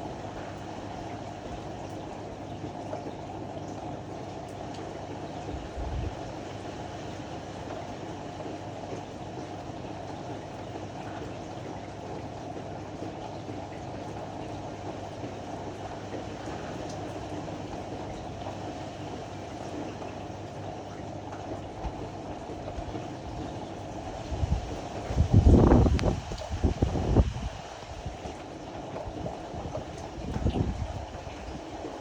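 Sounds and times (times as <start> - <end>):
washer-dryer rumbling: 0.0 - 32.0.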